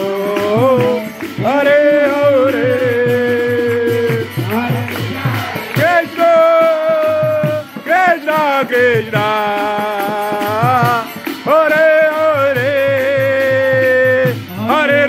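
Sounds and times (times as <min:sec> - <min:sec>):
drum beating quick rhythm: 0:00.0 - 0:15.0.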